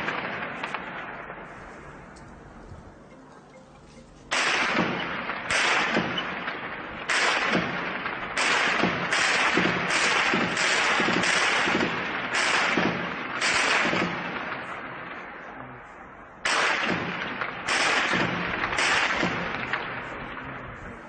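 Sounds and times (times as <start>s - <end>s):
loud echoing bangs: 0.0s - 3.0s, 4.3s - 20.7s.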